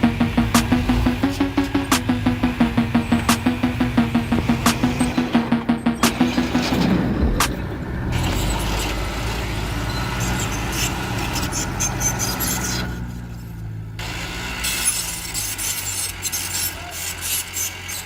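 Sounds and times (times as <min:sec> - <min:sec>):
heavy vehicle engine running: 0:00.0 - 0:14.6.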